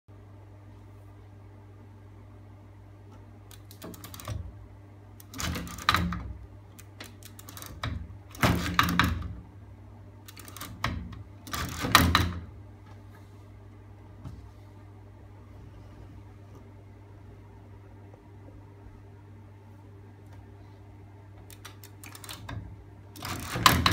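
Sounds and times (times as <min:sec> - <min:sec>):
steady low hum: 0:00.1 - 0:23.9.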